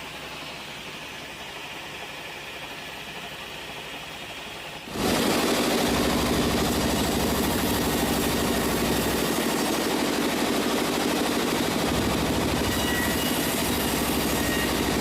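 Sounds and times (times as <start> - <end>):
sawmill machinery drone: 0.0 - 15.0.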